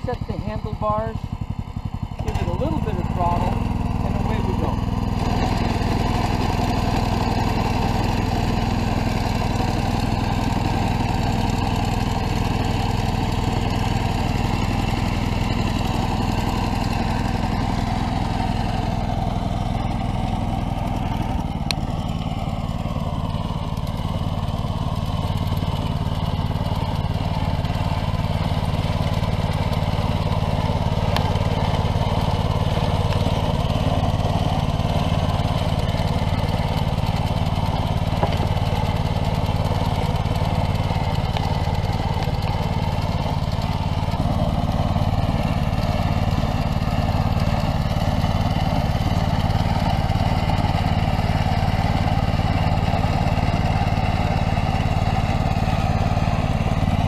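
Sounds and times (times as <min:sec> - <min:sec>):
tractor engine running: 0:00.0 - 0:57.0
vibrating digger: 0:00.0 - 0:57.0.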